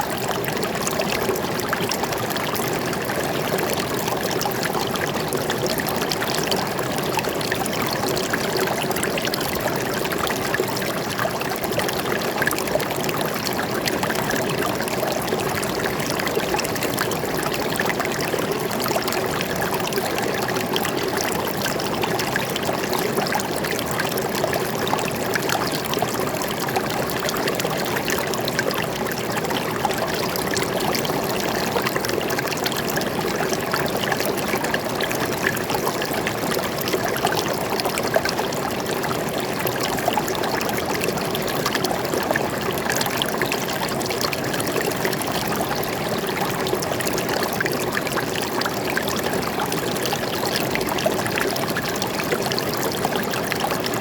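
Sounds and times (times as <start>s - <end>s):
stream water flowing over rocks: 0.0s - 54.0s.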